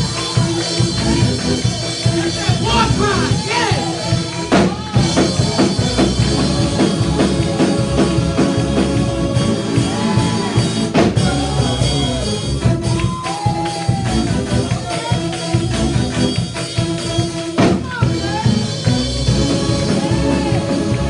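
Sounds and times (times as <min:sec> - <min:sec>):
people singing: 0:00.0 - 0:15.3, 0:18.0 - 0:21.0
drum kit fast beat: 0:00.0 - 0:21.0.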